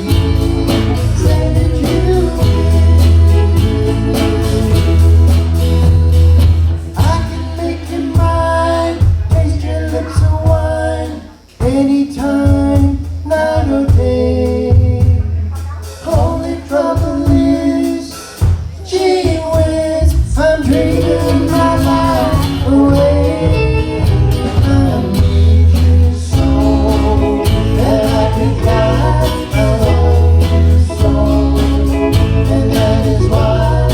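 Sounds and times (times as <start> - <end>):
bass line: 0.0 - 33.9
guitar: 0.0 - 33.9
person singing: 0.0 - 33.9.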